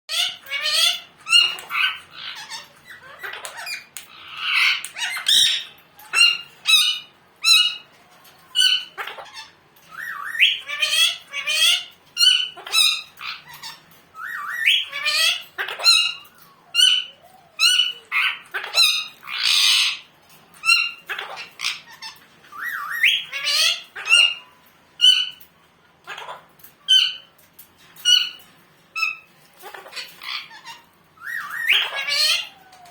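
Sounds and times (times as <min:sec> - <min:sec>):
parrot squawking: 0:00.1 - 0:32.9.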